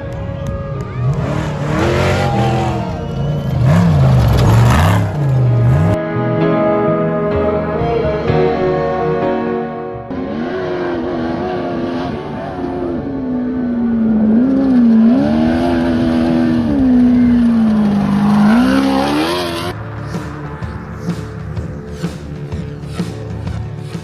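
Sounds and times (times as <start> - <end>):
buggy engine running hard: 0.0 - 6.0, 10.1 - 24.0.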